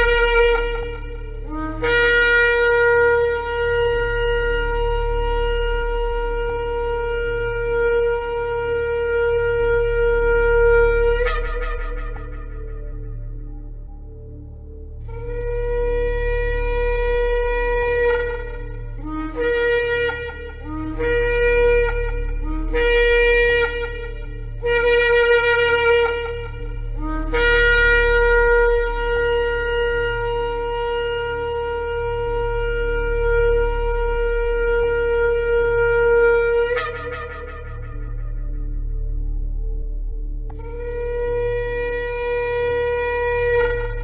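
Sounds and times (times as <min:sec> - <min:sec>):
low hum: 0:00.0 - 0:44.0
ram's horn blasts: 0:00.0 - 0:44.0.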